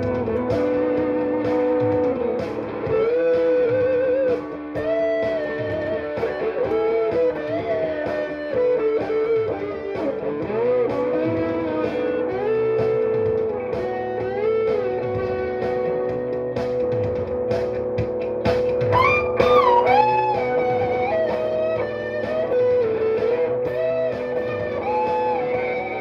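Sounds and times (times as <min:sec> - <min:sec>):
electric guitar lead with bends: 0:00.0 - 0:26.0.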